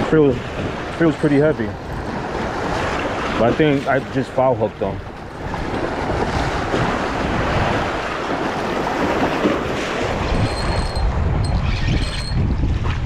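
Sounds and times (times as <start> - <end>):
surf washing on beach: 0.0 - 11.4
wind buffeting microphone: 0.0 - 13.0.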